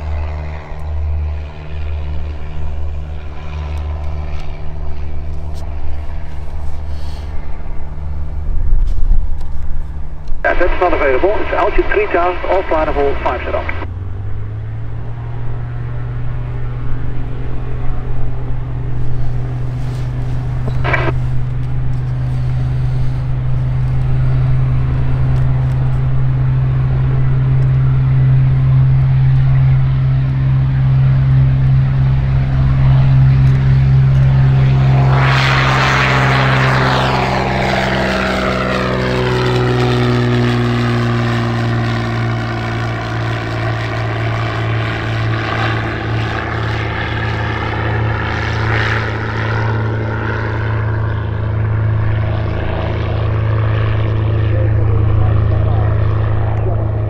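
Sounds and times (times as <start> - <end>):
propeller plane passing by: 0.0 - 57.0.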